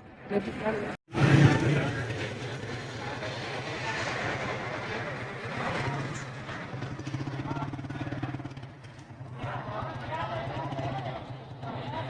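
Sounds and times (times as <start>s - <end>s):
vehicle engine humming: 0.7s - 12.0s.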